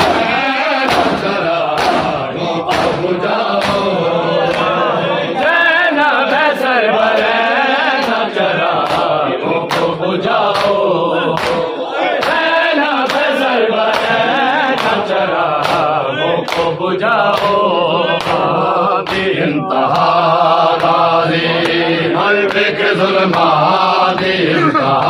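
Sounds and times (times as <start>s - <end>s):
hands slapping chests: 0.0s - 4.8s, 8.0s - 25.0s
men chanting in unison: 0.0s - 25.0s.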